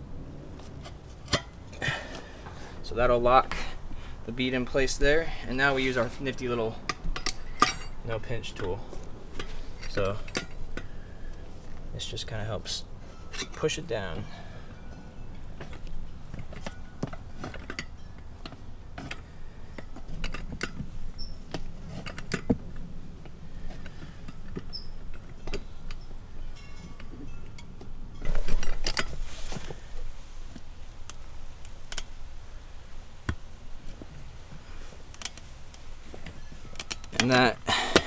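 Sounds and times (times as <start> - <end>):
tools scraping on wheel rim: 0.5 - 14.8, 15.6 - 38.0.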